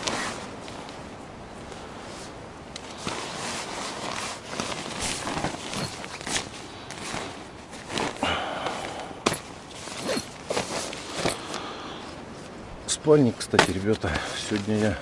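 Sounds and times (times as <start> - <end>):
rustling and crunching: 0.0 - 15.0.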